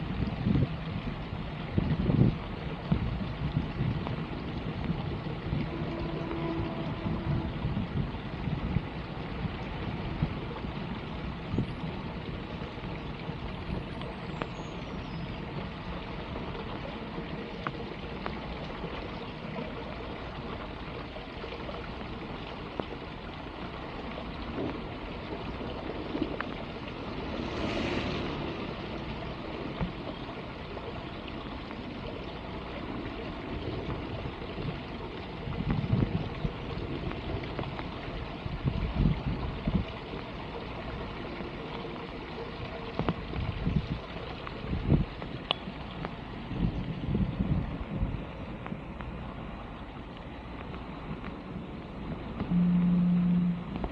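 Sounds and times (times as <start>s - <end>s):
floodwater rushing into a drain: 0.0s - 53.9s.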